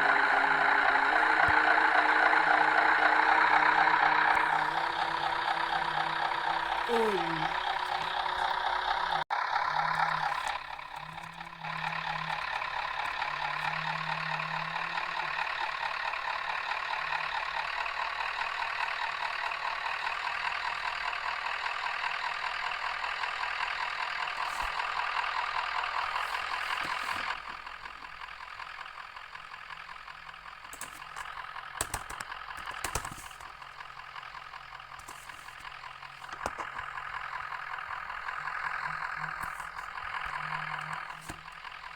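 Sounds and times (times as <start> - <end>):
bus diesel engine whining: 0.0 - 41.9.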